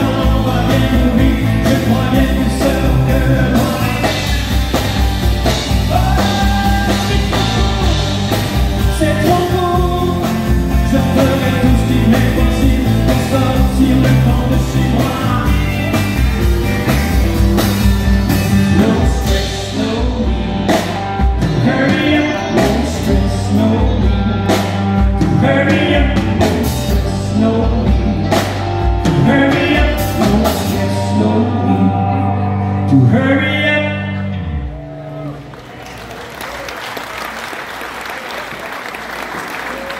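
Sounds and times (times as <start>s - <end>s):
male singer: 0.0s - 4.6s, 5.5s - 16.4s, 18.4s - 35.4s
live country band playing: 0.0s - 39.9s.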